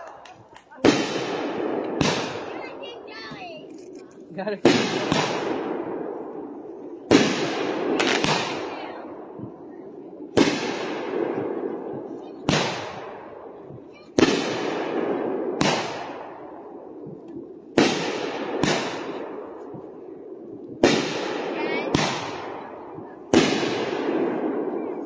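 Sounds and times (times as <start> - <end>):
firework bangs with echoing rumble: 0.0 - 3.7, 4.3 - 25.0.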